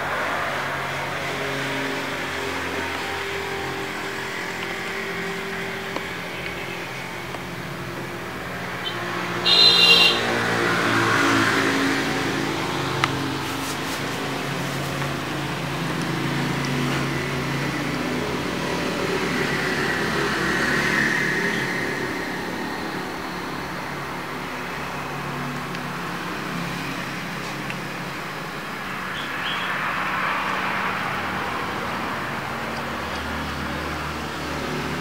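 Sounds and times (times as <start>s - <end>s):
engine noise: 0.0s - 35.0s.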